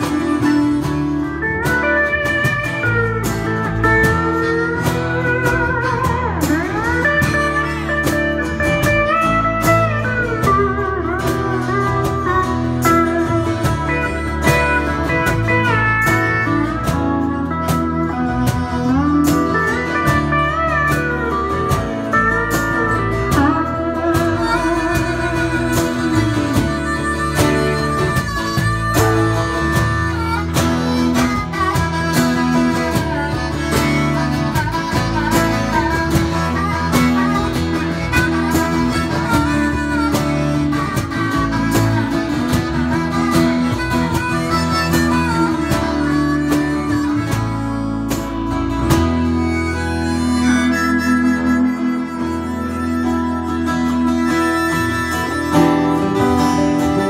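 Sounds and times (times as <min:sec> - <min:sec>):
country band playing: 0:00.0 - 0:57.0
harmonica: 0:00.0 - 0:57.0
pedal steel guitar: 0:00.0 - 0:57.0.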